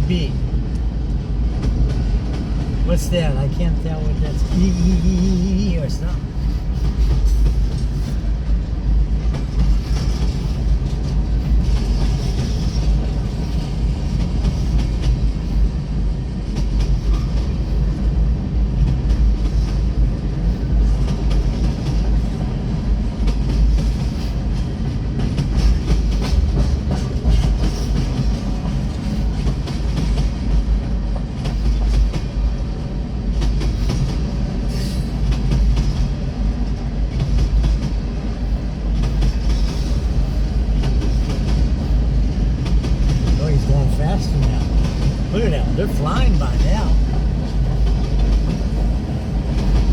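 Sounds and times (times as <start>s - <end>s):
freight train wheels clacking: 0.0s - 49.9s.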